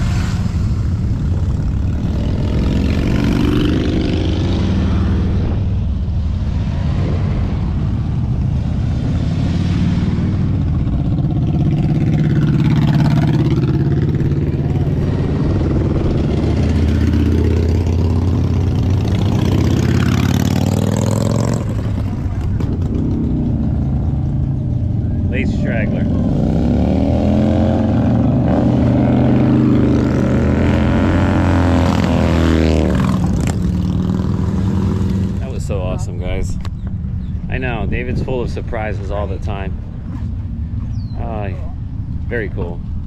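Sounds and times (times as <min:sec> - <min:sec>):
motorcycles revving past: 0:00.0 - 0:35.8.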